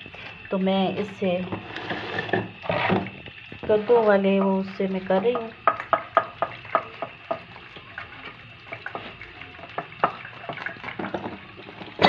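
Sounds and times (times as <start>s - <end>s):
faint sizzle: 0.0s - 12.0s
ghee crackling and popping in pan: 0.0s - 12.0s.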